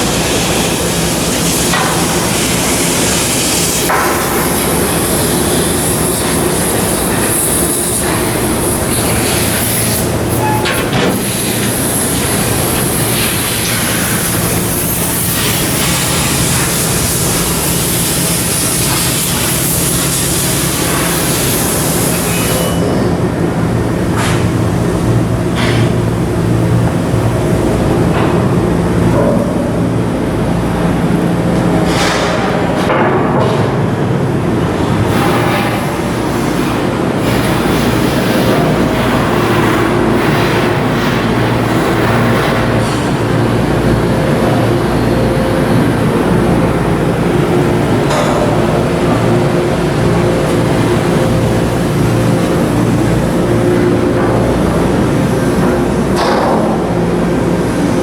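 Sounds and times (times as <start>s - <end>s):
machinery low hum: 0.0s - 58.0s.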